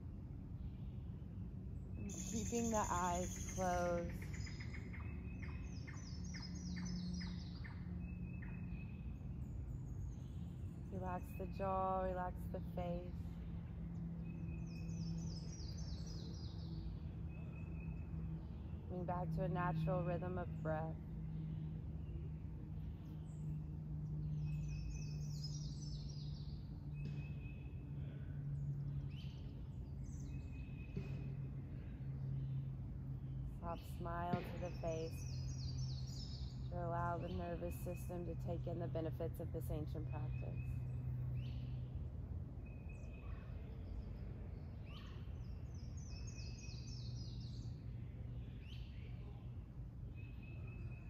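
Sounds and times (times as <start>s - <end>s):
songbirds calling: 0.0s - 51.0s
steady low hum: 0.0s - 51.0s
birds chirping: 0.5s - 51.0s.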